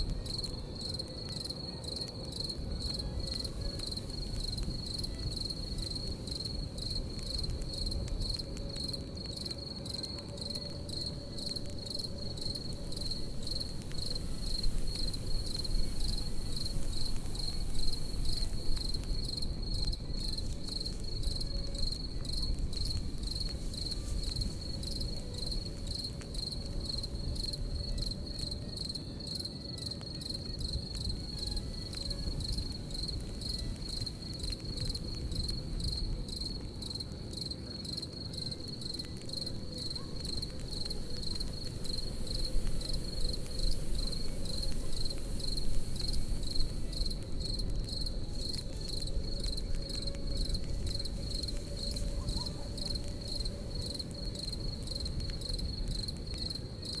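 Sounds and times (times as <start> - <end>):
fire pops: 0.0 - 29.4, 30.0 - 57.0
campfire crackling: 0.0 - 57.0
crickets chirping: 0.0 - 57.0.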